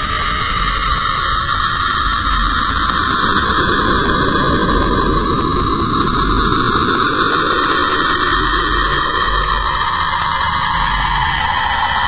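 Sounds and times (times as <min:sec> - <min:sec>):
hissing drone with low rumble: 0:00.0 - 0:12.0.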